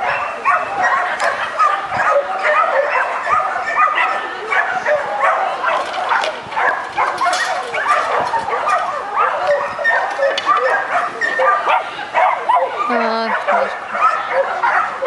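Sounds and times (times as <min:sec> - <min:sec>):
dog barking and yipping: 0:00.0 - 0:15.0.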